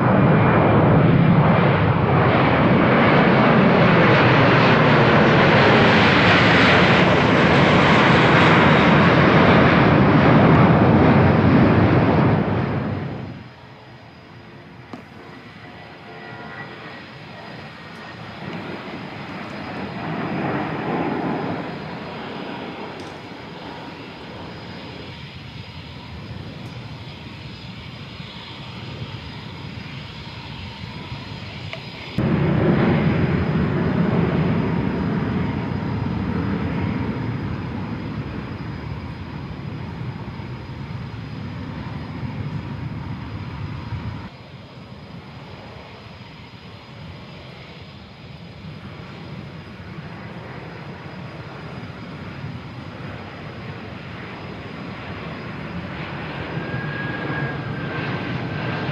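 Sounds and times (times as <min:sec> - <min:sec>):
jet engines rushing with whine: 0:00.0 - 0:58.9.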